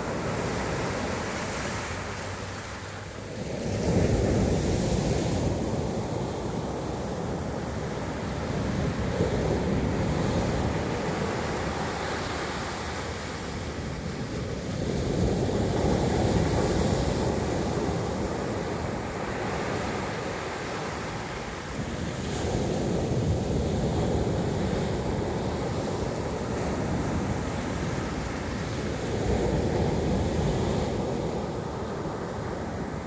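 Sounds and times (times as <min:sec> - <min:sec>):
waves washing in: 0:00.0 - 0:33.0
wind on microphone: 0:00.0 - 0:33.0.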